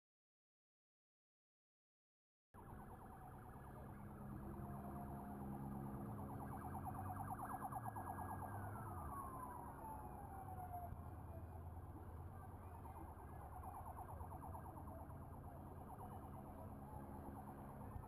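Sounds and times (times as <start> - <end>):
police sirens warbling: 2.6 - 18.0.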